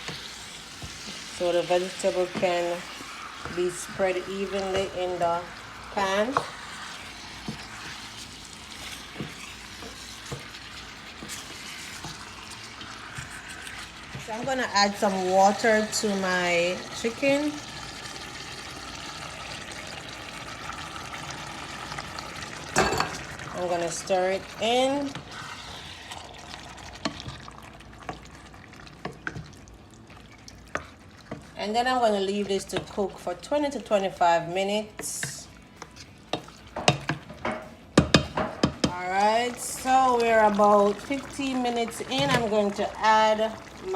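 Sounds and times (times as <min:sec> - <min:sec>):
food sizzling in a pan: 0:00.0 - 0:43.9.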